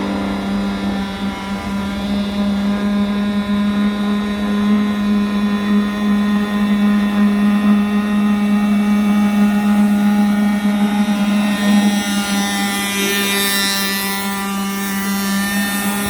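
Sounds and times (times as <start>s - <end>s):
model boat motor buzzing: 0.0s - 16.0s.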